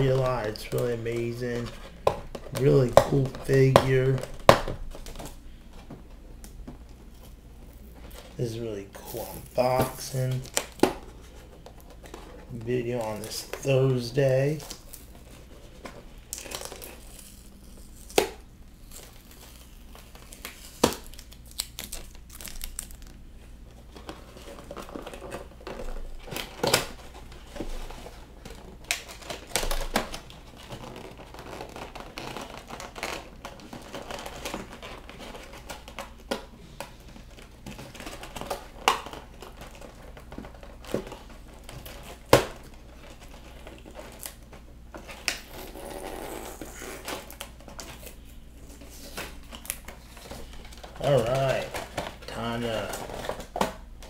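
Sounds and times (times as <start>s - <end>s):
packaging rustling and crinkling: 0.0s - 54.0s.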